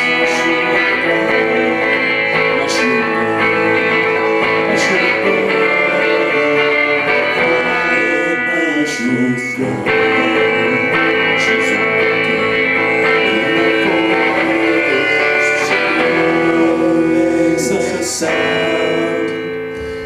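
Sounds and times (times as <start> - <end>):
live band playing guitar music: 0.0 - 20.0.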